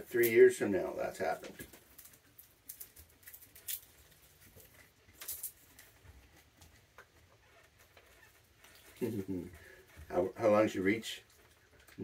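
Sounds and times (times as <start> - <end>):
raccoons scratching and clicking: 1.1 - 10.2, 11.2 - 12.0.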